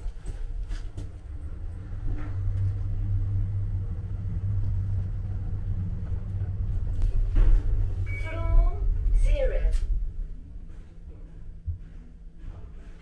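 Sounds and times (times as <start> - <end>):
lift car rumble: 0.0 - 13.0.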